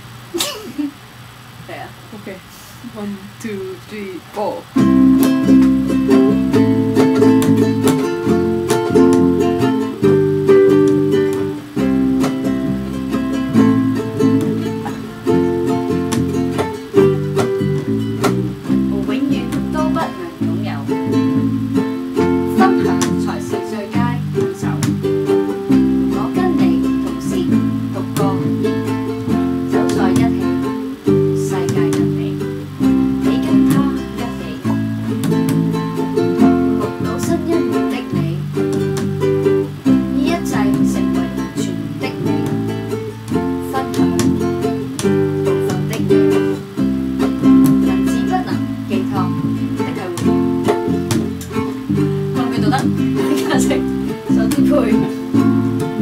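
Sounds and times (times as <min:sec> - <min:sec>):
nylon-string guitar chords: 0:00.0 - 0:56.0.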